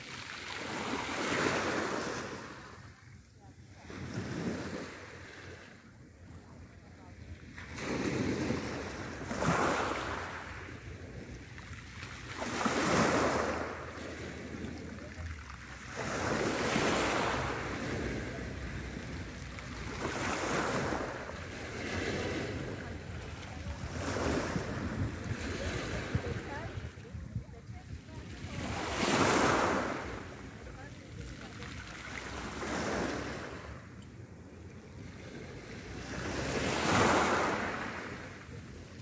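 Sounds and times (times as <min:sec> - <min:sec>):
sea waves breaking on shore: 0:00.0 - 0:34.0, 0:34.7 - 0:39.0.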